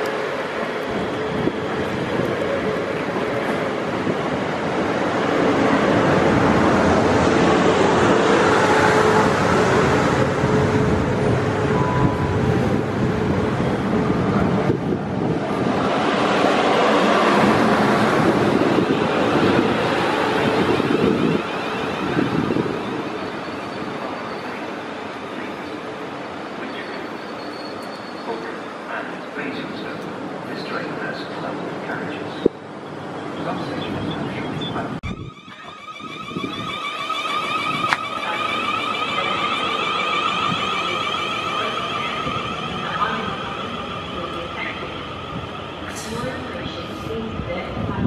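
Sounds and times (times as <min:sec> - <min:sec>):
train rushing past: 0:00.0 - 0:48.0.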